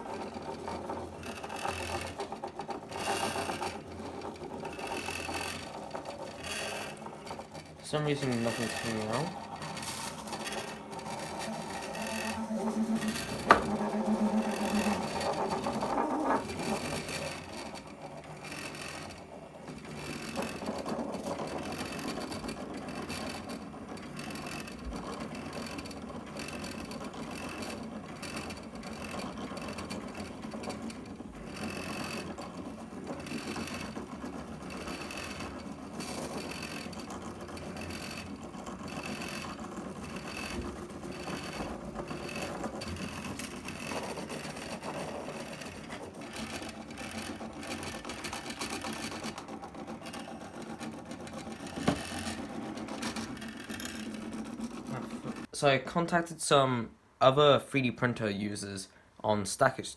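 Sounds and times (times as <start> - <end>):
stepper motors buzzing: 0.0 - 55.5.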